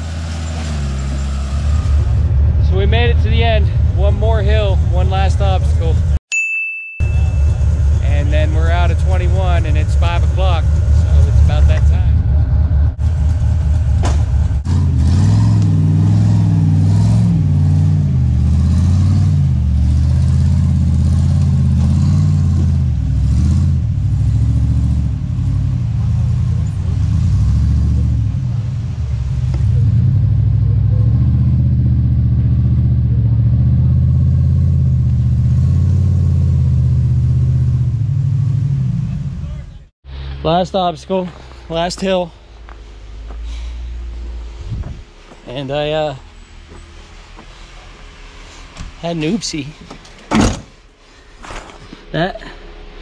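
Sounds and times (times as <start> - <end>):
truck engine revving: 0.0 - 6.2, 7.0 - 51.0.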